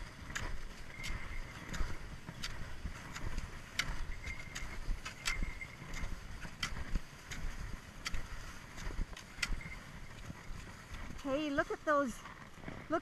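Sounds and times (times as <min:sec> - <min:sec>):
skis gliding over snow: 0:00.0 - 0:13.0
wind on microphone: 0:00.0 - 0:13.0
ski pole clicks: 0:00.1 - 0:11.0.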